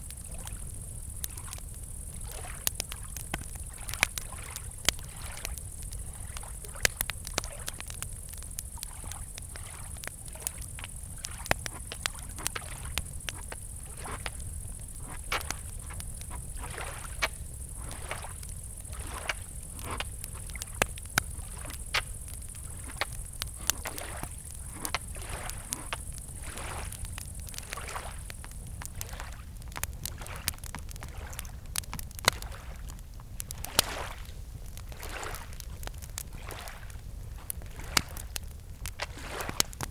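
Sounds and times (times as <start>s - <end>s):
campfire crackling and popping: 0.0s - 39.9s
crickets chirring: 0.0s - 39.9s
water gently lapping: 0.1s - 39.8s.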